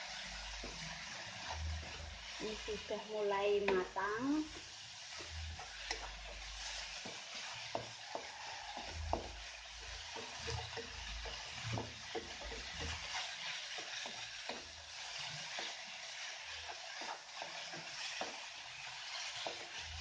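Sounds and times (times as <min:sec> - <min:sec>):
spatula knocking pan: 0:00.0 - 0:02.9, 0:03.6 - 0:20.0
spatula scraping wok: 0:00.0 - 0:20.0
steady sizzle: 0:00.0 - 0:20.0.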